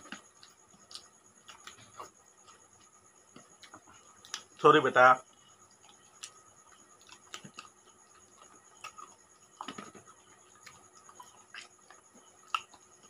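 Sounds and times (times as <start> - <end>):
people eating by hand: 0.0 - 13.0.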